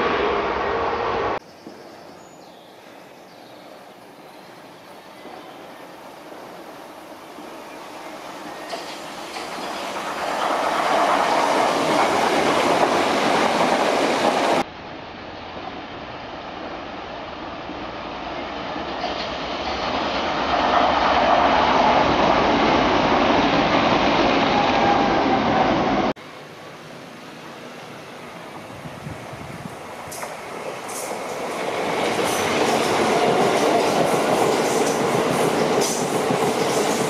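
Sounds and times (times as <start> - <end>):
electric trains passing: 0.0 - 37.0
wheels on rail: 4.5 - 37.0.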